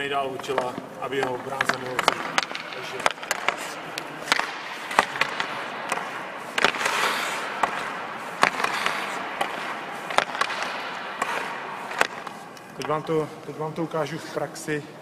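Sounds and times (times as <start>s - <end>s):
hockey stick clacking puck: 0.2s - 13.3s
skates scraping on ice: 0.2s - 14.6s.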